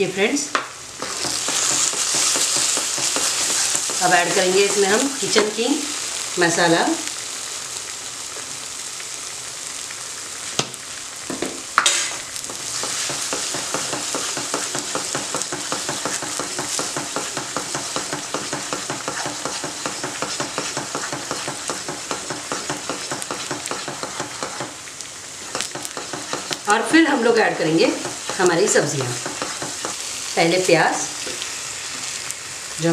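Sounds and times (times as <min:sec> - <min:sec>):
paste sizzling in oil: 0:00.2 - 0:32.9.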